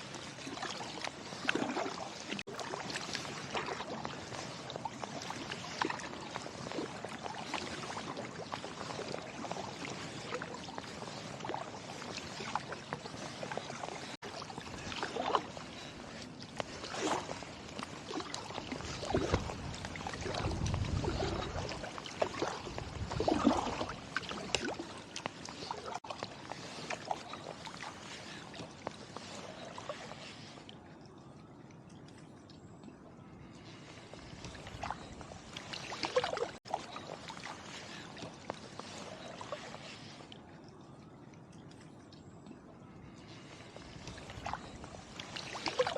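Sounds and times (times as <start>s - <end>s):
paddle splashing in water: 0.0s - 30.8s, 33.4s - 40.4s, 43.0s - 45.9s.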